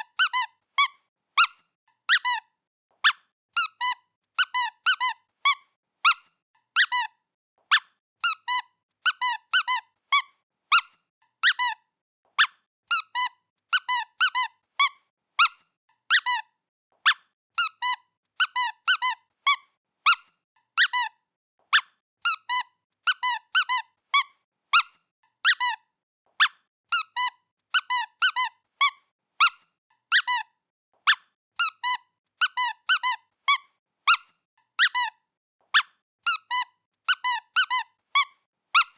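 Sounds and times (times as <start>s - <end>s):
squeaky toy squeaks: 0.0s - 38.9s.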